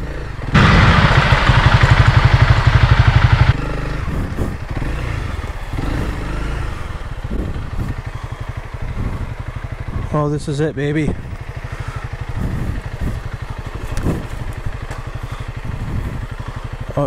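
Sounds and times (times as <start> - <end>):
light engine clatter: 0.0 - 17.0
motorcycle engine revving: 0.0 - 17.0.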